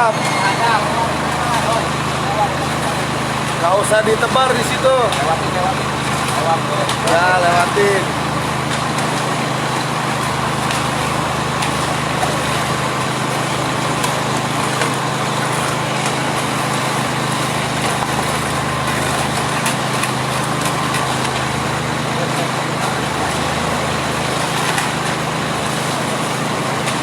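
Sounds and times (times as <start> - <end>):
engine low drone: 0.0 - 27.0.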